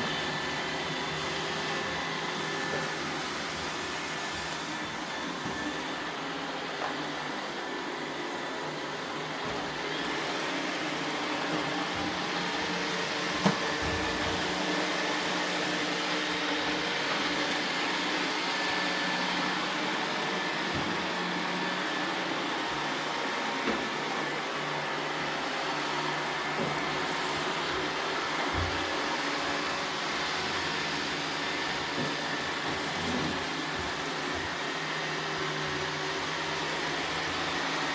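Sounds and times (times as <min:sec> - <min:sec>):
robot vacuum whirring: 0:00.0 - 0:37.9.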